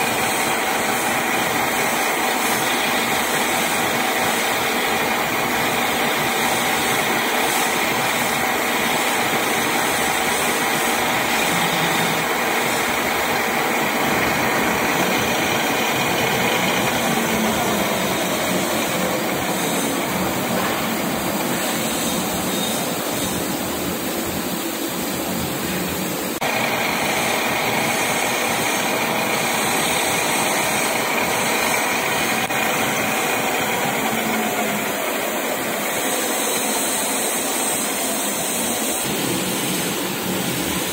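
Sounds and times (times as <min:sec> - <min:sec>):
metal lathe running: 0:00.0 - 0:40.9.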